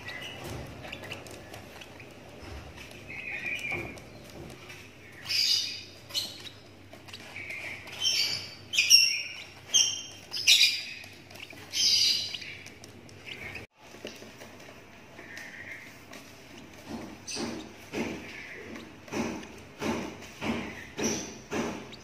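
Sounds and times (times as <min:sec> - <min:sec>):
bird chick chirping: 0:00.0 - 0:14.3, 0:15.1 - 0:22.0.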